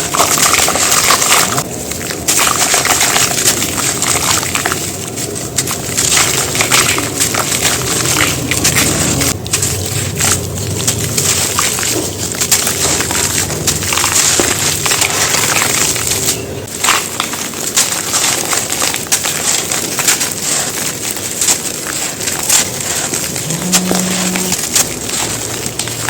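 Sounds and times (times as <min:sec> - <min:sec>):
cement chunks crunching: 0:00.0 - 0:26.0.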